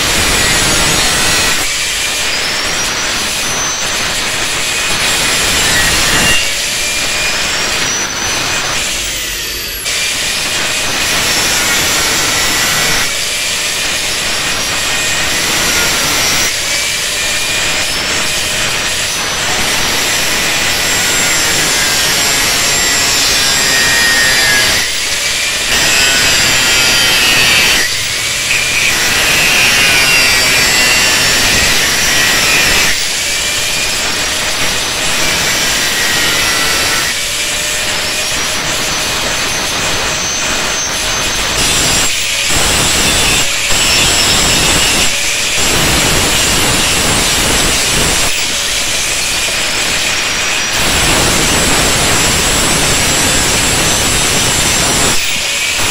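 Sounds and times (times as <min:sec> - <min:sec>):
angle grinder cutting steel: 0:00.0 - 0:55.9.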